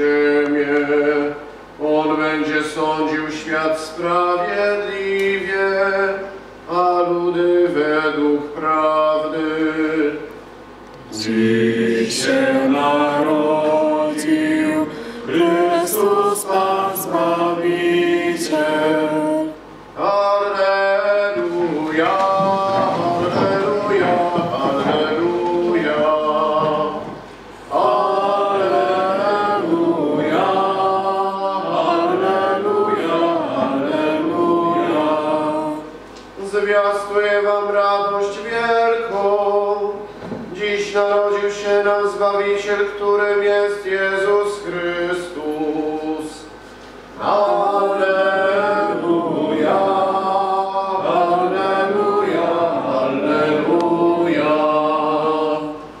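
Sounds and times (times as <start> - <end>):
group singing a hymn: 0.0 - 10.4, 11.0 - 56.0.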